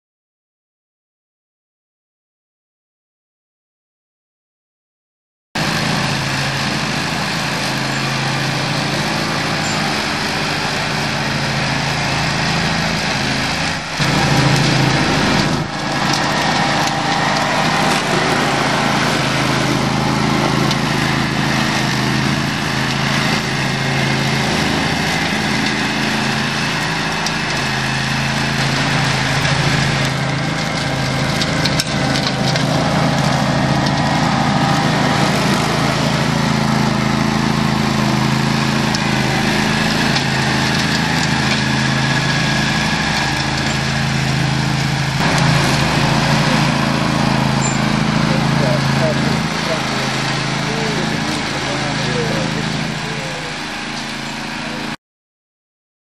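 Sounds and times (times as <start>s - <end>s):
ride-on mower running: 5.6s - 55.0s.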